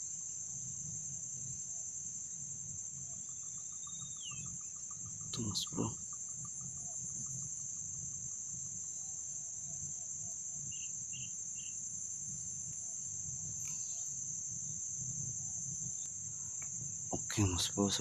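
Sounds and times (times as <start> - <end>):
insect chorus trilling: 0.0 - 18.0.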